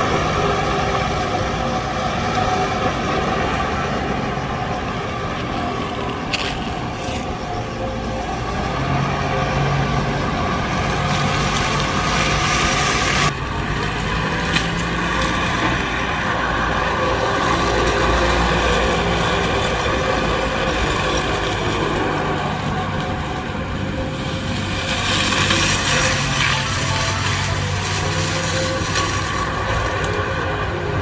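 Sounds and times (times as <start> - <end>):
excavator engine running: 0.0 - 31.0
weed cutter hissing: 0.0 - 31.0.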